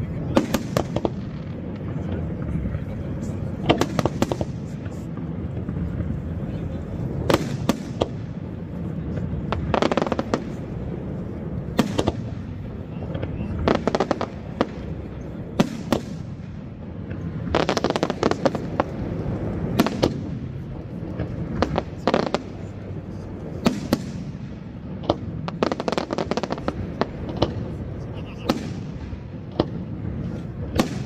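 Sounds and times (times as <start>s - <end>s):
firework bangs and pops: 0.0s - 31.0s.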